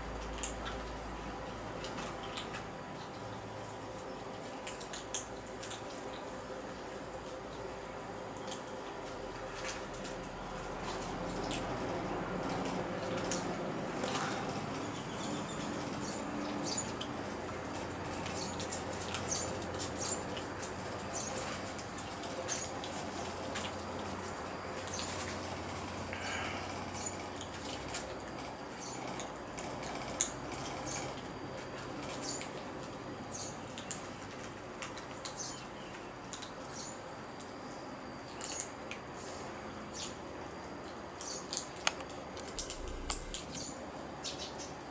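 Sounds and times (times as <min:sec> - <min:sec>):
kittens crunching dry kibble: 0:00.1 - 0:44.2.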